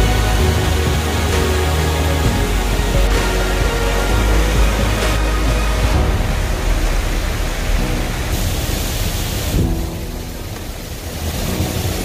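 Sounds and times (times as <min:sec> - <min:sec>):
fountain jets splashing: 0:00.0 - 0:12.0.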